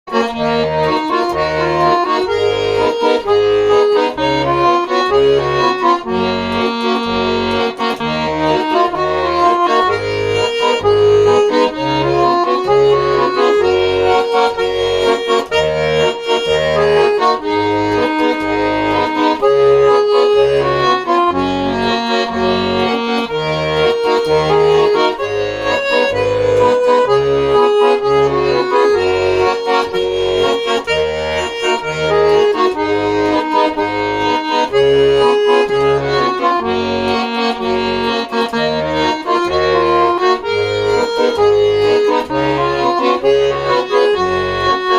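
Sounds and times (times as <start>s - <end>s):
instrumental melody over bass: 0.1s - 44.9s.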